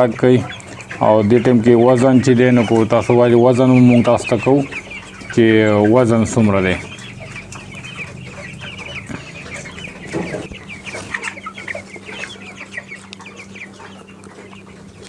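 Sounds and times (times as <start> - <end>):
chicks peeping and chirping: 0.0 - 15.0
steady low hum: 0.0 - 15.0.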